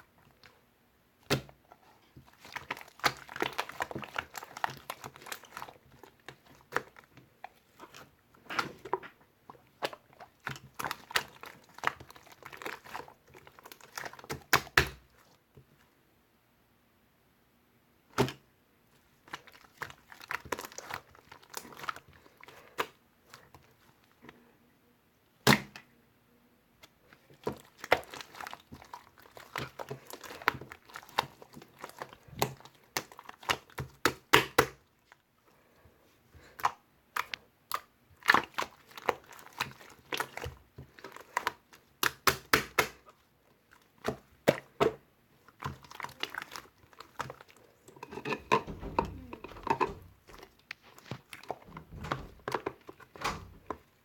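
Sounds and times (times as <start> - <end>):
crinkling and clicking handling noises: 1.2 - 15.8, 19.1 - 24.5, 26.8 - 54.0.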